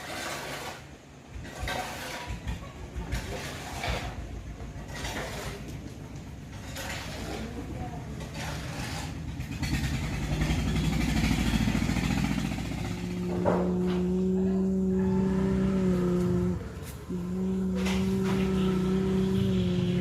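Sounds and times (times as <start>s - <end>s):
excavator diesel engine revving: 0.0s - 20.0s.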